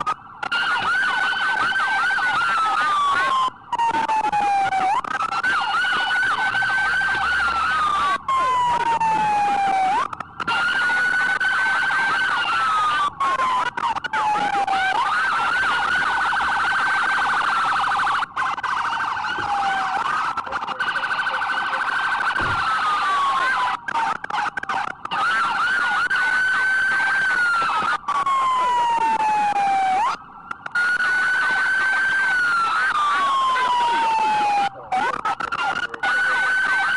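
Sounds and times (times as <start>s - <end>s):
police sirens wailing: 0.0s - 36.9s.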